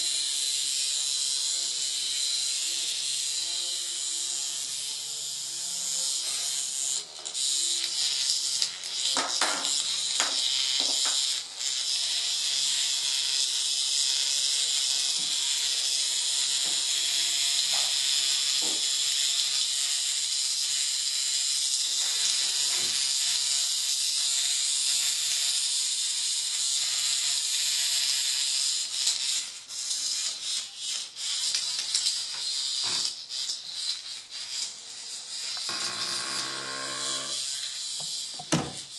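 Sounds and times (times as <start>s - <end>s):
vibrating toy buzzing on tiles: 0.0s - 38.9s.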